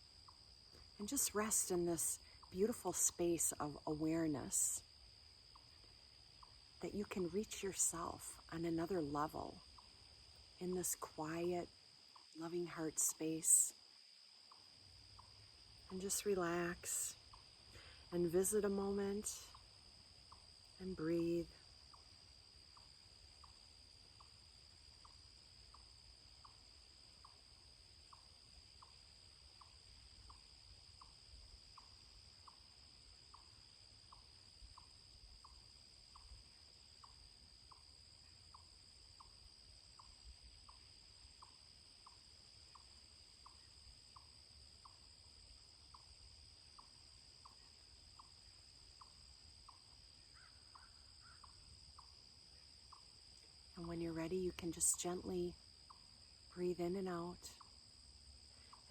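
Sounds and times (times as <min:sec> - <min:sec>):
high insect drone: 0:00.0 - 0:58.9.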